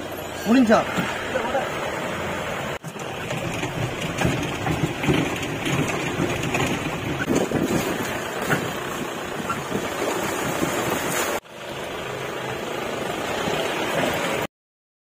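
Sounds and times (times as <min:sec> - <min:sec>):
car engine driving: 0:00.0 - 0:14.5.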